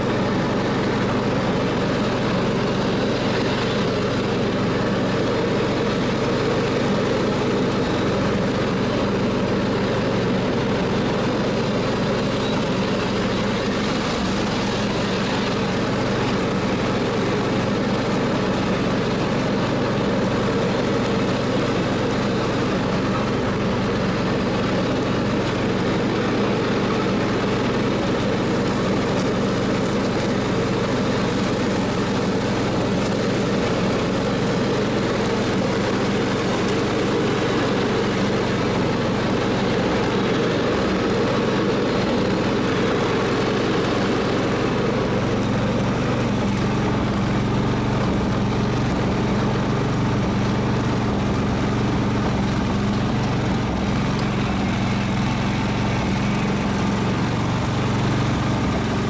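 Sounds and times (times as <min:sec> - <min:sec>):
riding mower engine running: 0:00.0 - 0:59.0.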